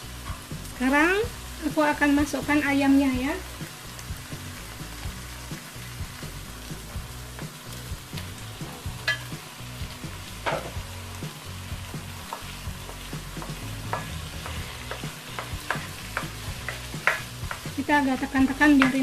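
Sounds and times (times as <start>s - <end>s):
chicken sizzling in oil: 0.0s - 19.0s
utensil scraping a wok: 3.3s - 19.0s.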